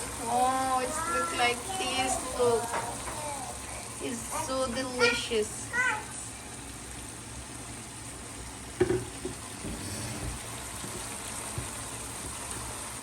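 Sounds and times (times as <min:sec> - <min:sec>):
pot simmering and sizzling: 0:00.0 - 0:13.0.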